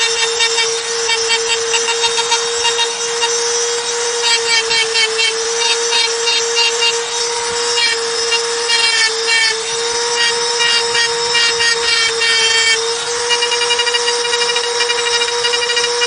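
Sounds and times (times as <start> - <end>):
bit grinding stone: 0.0 - 16.0
rotary engraving tool whine: 0.0 - 16.0.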